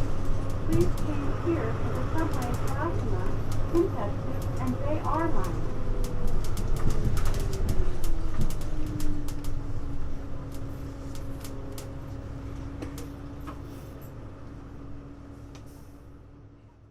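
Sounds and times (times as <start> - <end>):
bus drivetrain hum: 0.0 - 16.9.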